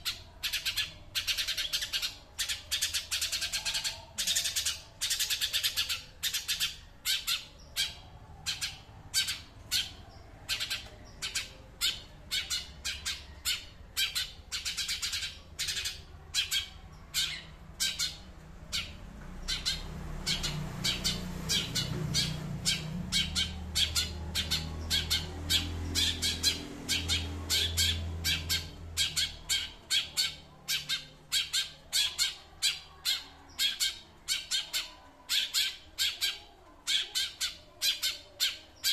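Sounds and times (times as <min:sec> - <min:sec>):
songbird chattering calls: 0:00.0 - 0:38.9.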